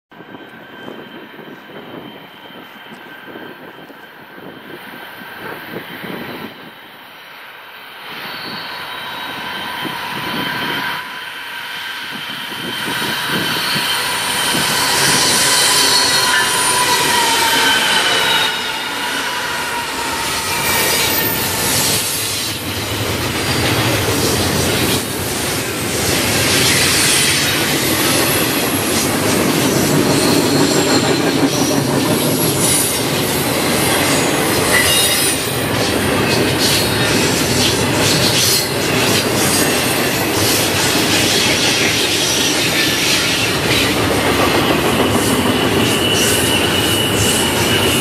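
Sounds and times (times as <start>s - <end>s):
diesel train passing: 0.1s - 48.0s
high-pitched wheel squeal: 8.0s - 48.0s.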